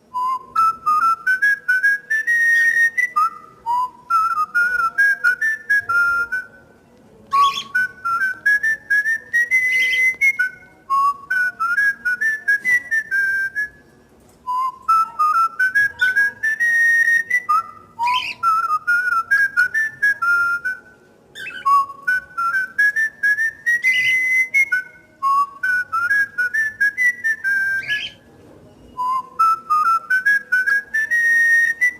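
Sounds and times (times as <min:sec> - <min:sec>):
cockatiel whistling a tune: 0:00.1 - 0:06.5, 0:07.3 - 0:13.9, 0:14.5 - 0:28.2, 0:28.9 - 0:31.9.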